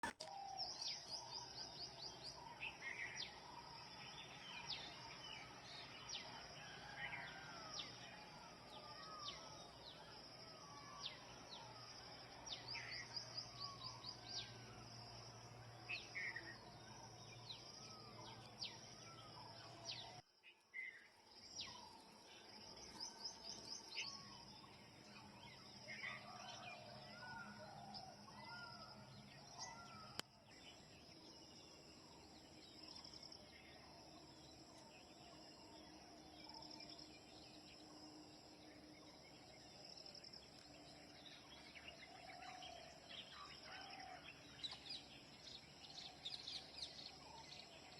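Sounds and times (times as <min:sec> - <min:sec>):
birds chirping and trilling: 0:00.2 - 0:47.9.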